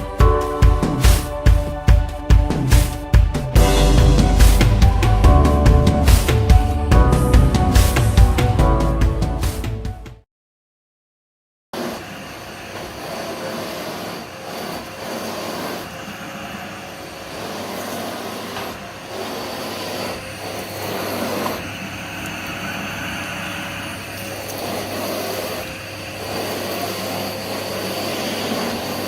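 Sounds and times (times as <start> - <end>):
vacuum cleaner running: 0.0 - 8.9, 11.8 - 29.0.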